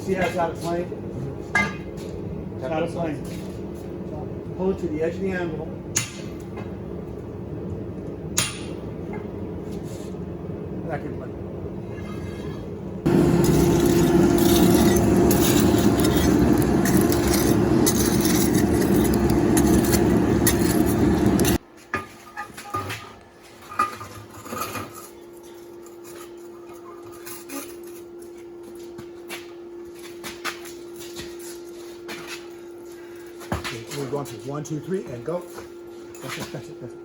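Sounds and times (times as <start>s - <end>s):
shop equipment roaring: 0.0s - 37.0s.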